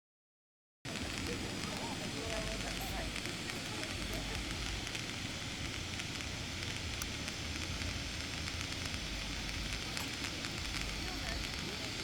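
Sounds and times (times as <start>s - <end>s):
faint crackles: 0.9s - 12.0s
fireworks hissing: 0.9s - 12.0s.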